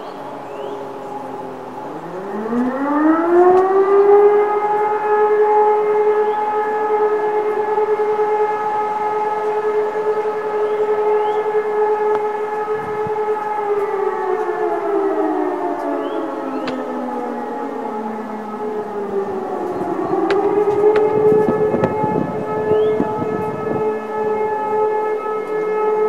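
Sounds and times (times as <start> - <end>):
motor siren wailing: 0.0 - 26.0.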